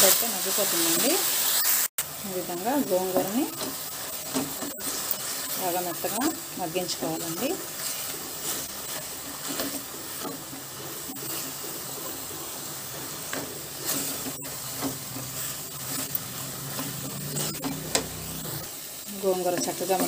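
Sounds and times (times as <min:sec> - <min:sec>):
leaves sizzling in hot oil: 0:00.0 - 0:20.0
spatula scraping a pan: 0:02.6 - 0:20.0.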